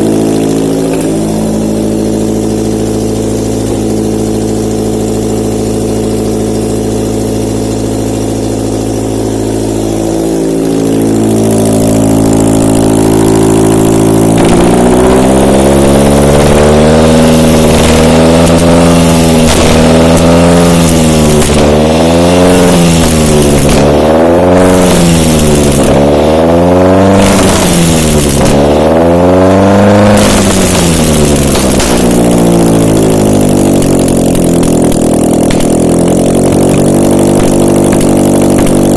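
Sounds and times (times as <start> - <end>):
petrol engine idling and revving: 0.0 - 38.9.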